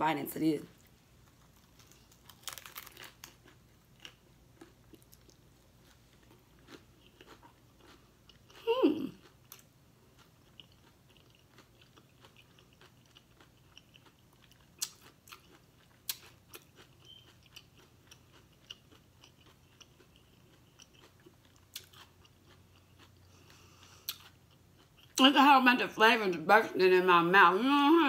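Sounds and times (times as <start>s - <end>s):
person chewing food: 0.8s - 25.2s.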